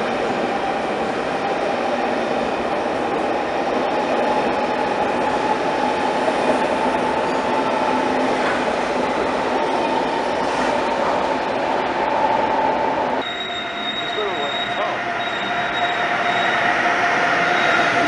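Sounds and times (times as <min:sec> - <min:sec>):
train rolling rumble: 0:00.0 - 0:18.0.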